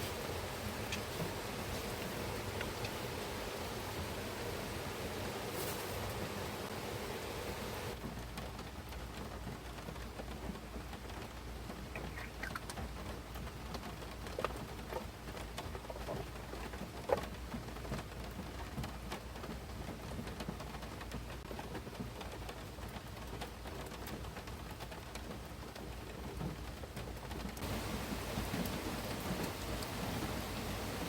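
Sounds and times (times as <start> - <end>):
rain falling: 0.0 - 31.0
raindrops ticking on a surface: 0.0 - 31.0.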